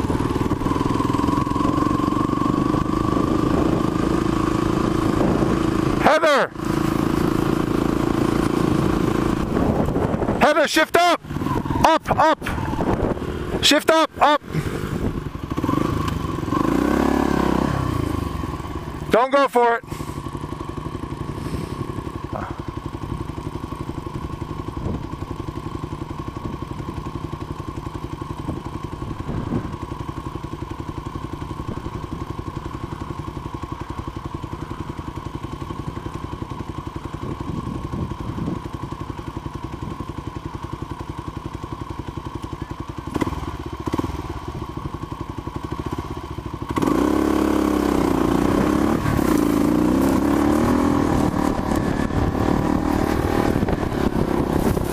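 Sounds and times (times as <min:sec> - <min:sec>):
dirt bike engine revving: 0:00.0 - 0:40.5, 0:42.6 - 0:54.9.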